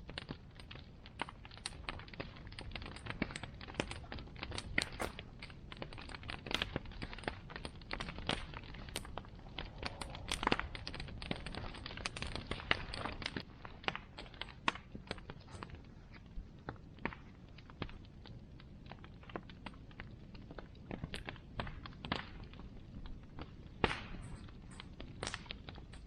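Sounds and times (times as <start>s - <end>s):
bonfire crackling and popping: 0.0s - 26.0s
fire low rumble: 0.0s - 26.0s.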